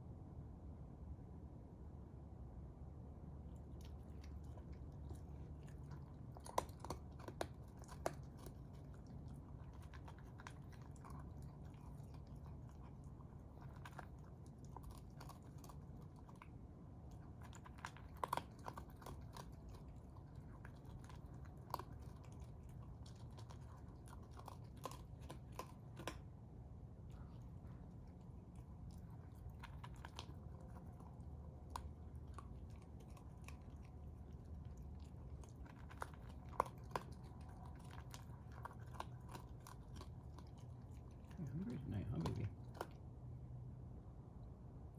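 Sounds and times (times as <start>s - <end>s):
animal chewing with crunching clicks: 3.5s - 43.4s.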